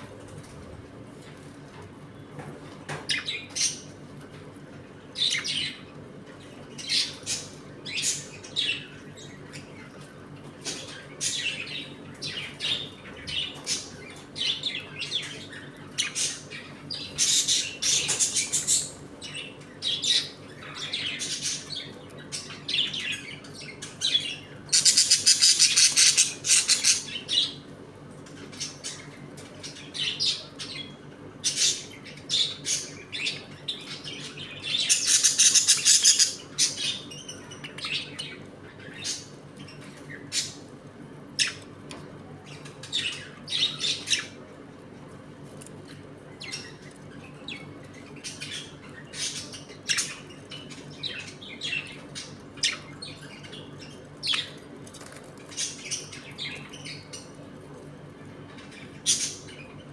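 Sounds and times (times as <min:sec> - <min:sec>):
budgerigars chirping and squawking: 0:02.6 - 0:04.3, 0:05.0 - 0:41.8, 0:42.4 - 0:44.5, 0:45.6 - 0:57.5, 0:58.5 - 0:59.9.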